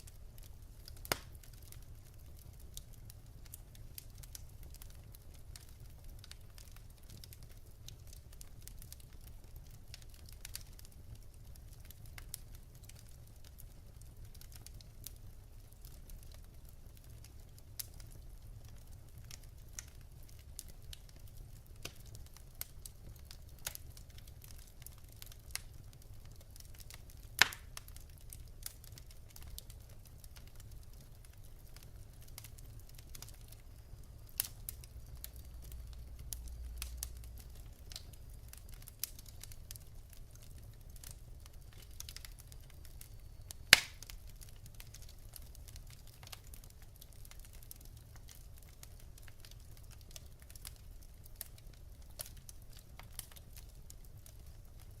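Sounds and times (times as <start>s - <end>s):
burning logs popping: 0.0s - 55.0s
low rumble of fire: 0.0s - 55.0s
wood fire crackling: 0.0s - 55.0s.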